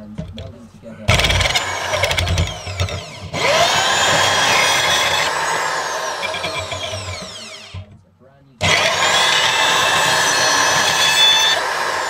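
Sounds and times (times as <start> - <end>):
bandsaw cutting metal plate: 1.1 - 7.9, 8.6 - 12.0.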